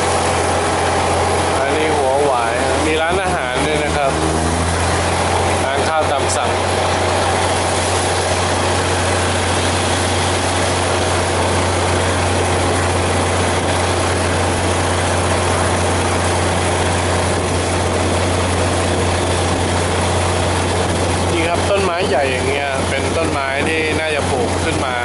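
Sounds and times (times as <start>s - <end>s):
low engine drone: 0.0s - 25.0s
train rushing noise: 0.0s - 25.0s.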